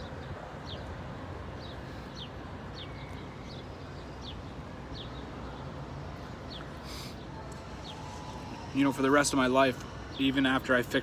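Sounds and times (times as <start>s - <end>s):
low outdoor background hum: 0.0s - 11.0s.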